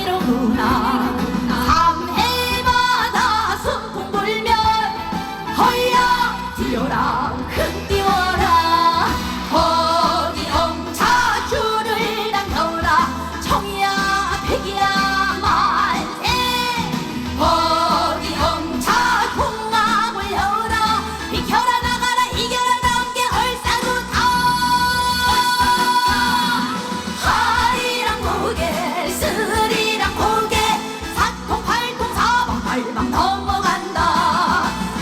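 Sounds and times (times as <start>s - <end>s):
backing track with steady beat: 0.0s - 35.0s
woman singing: 0.0s - 35.0s.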